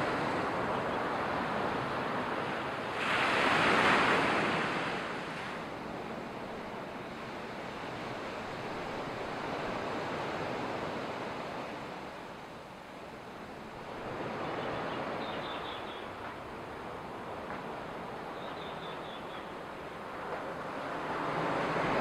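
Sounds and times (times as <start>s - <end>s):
sea waves washing onto beach: 0.0s - 22.0s.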